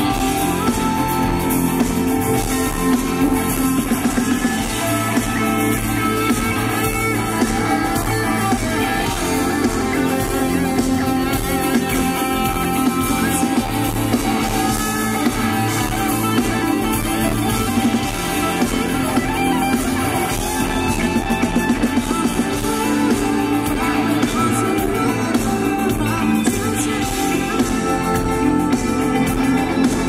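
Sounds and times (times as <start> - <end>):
drums: 0.0 - 30.0
electric guitar: 0.0 - 30.0
live rock band: 0.0 - 30.0.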